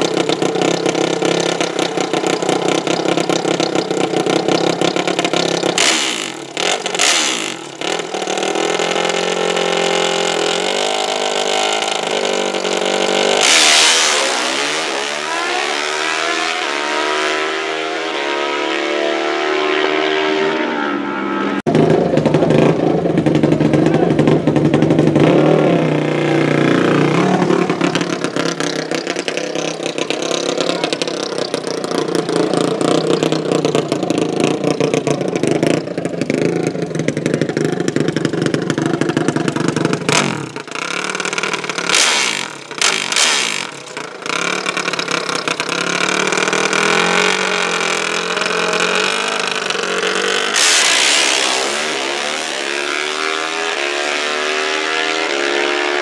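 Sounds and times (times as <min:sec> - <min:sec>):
drag racing engines at full throttle: 0:00.0 - 0:56.0.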